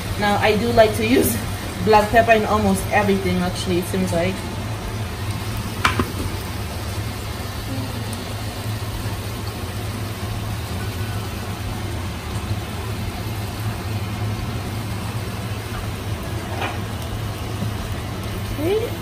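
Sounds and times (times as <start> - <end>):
mixture sizzling in a saucepan: 0.0 - 19.0
steady low hum: 0.0 - 19.0.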